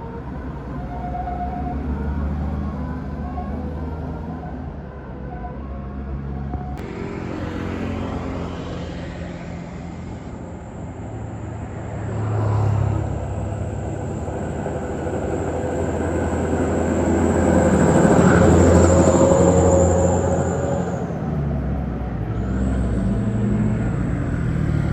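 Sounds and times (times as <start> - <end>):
bus diesel engine rumbling: 0.0 - 24.9
road traffic: 0.0 - 24.9.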